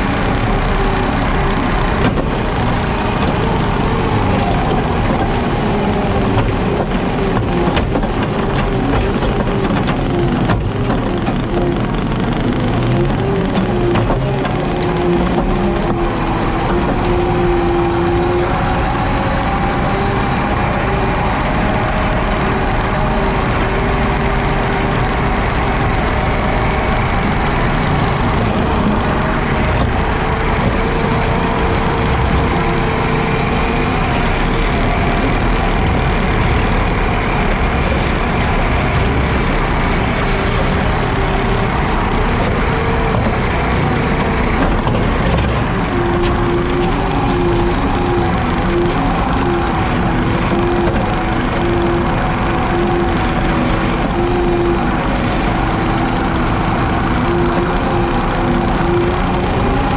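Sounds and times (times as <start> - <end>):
mower drone with whining tones: 0.0 - 59.9.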